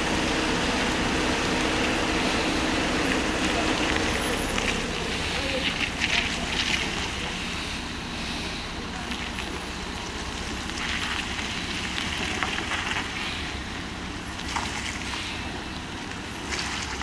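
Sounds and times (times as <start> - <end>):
diesel lorry engine labouring: 0.0 - 17.0.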